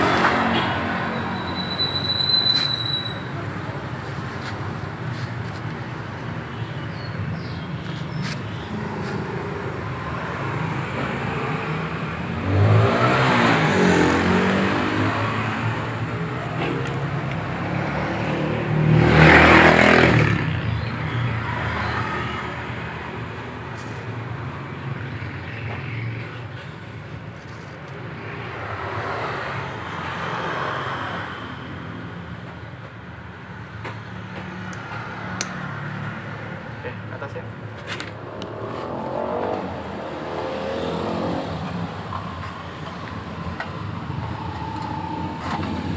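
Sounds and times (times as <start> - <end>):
vehicle engines revving: 0.0 - 45.9.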